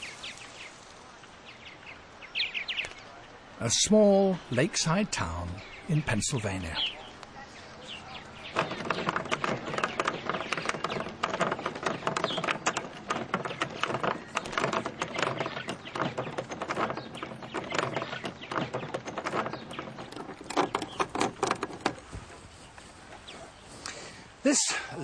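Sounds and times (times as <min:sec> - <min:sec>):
birds chattering and croaking: 0:00.0 - 0:25.0.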